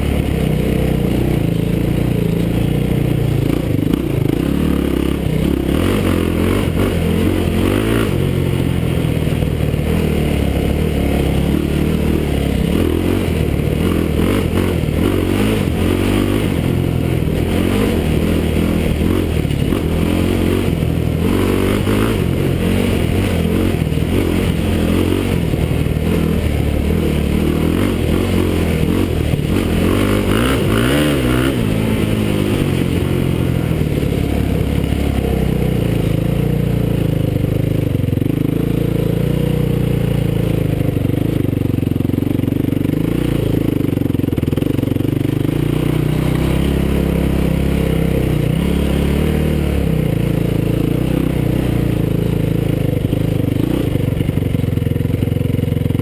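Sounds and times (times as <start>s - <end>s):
quad engine revving: 0.0s - 56.0s.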